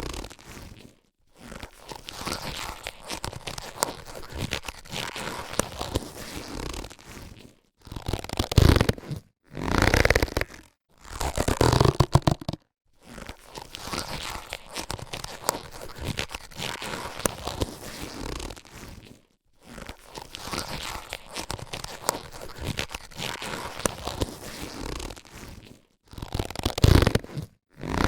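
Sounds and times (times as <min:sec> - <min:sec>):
latex gloves crackling: 0:00.0 - 0:28.0.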